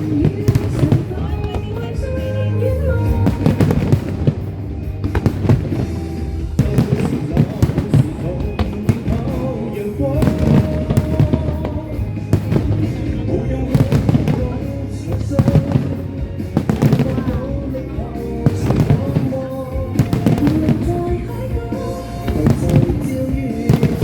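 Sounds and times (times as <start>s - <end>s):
fireworks bangs and crackles: 0.0s - 24.0s
music with melody: 0.0s - 24.0s.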